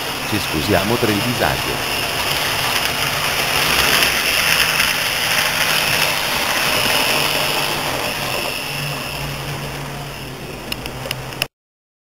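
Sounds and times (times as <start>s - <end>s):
low hum: 0.0s - 11.5s
model train rolling and whirring: 0.0s - 11.5s.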